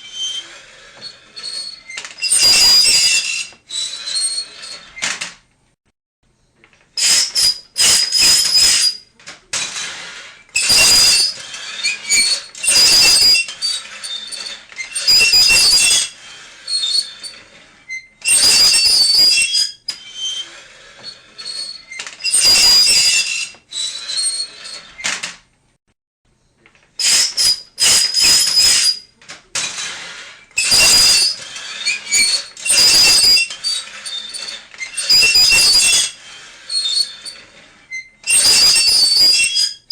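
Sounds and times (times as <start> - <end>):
high-pitched squeals: 0.0 - 5.0, 7.0 - 25.0, 27.0 - 39.9.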